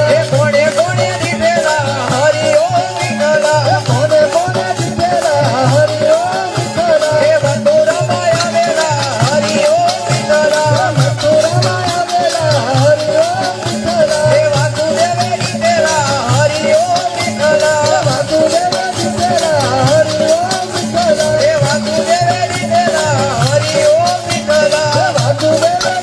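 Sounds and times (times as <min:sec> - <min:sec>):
shaker-like hand percussion: 0:00.0 - 0:26.0
steady drum beat: 0:00.0 - 0:26.0.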